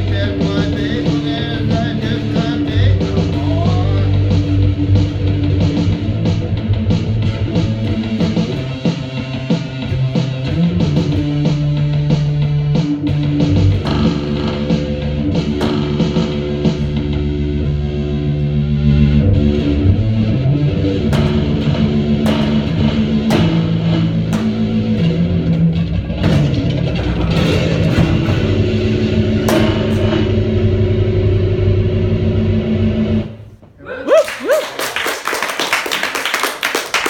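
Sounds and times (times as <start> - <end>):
electric bass guitar: 0.0 - 33.8.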